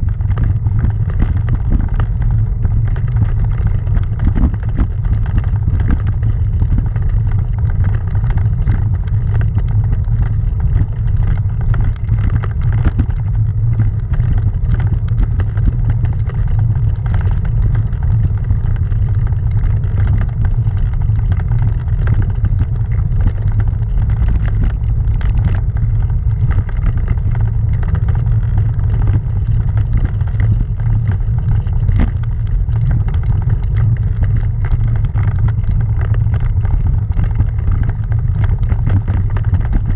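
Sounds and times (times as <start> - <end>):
bicycle rumbling over cobblestones: 0.0 - 39.9.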